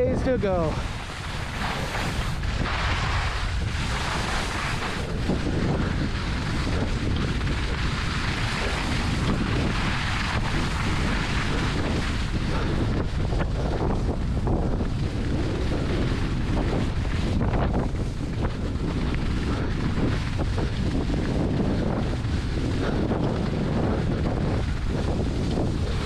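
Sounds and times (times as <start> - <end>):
skis scraping on packed snow: 0.0 - 26.0
wind buffeting microphone: 0.0 - 26.0.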